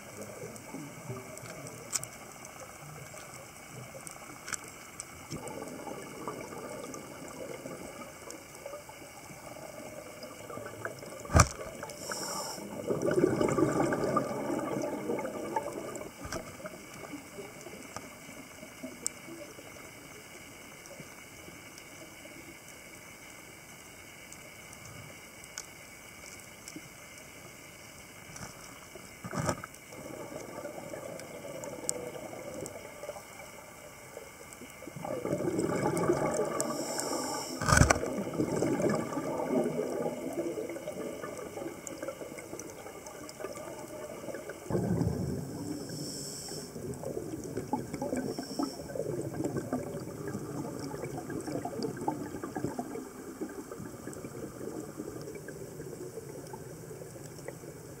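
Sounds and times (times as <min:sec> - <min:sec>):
underwater regulator bubbles: 0:00.0 - 0:20.0, 0:29.3 - 0:58.0.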